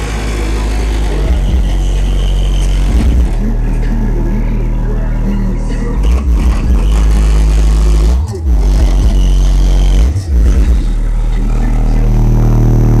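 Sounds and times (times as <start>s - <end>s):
hip hop music through car subwoofers: 0.0s - 13.0s.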